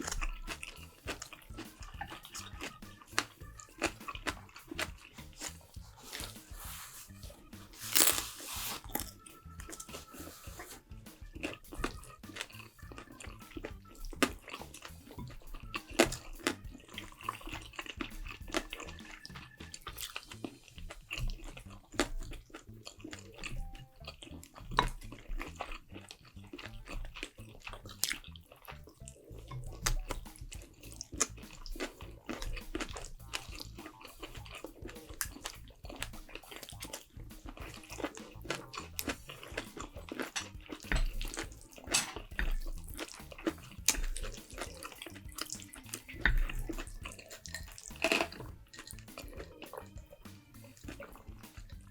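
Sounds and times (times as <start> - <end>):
mouth smacks and clicks: 0.0 - 51.9
wet chewing: 0.0 - 51.9.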